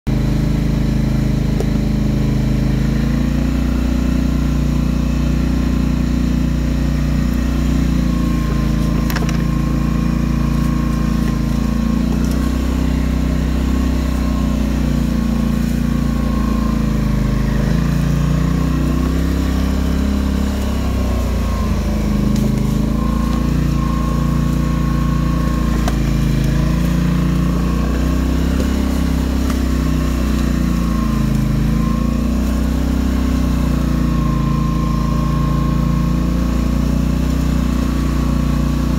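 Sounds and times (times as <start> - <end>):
atv engine running: 0.1 - 38.9.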